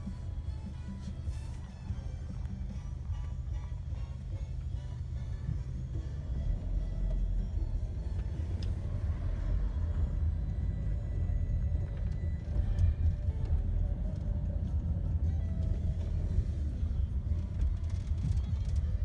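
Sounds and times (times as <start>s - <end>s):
car road rumble: 0.0s - 19.0s
faint music: 0.0s - 19.0s.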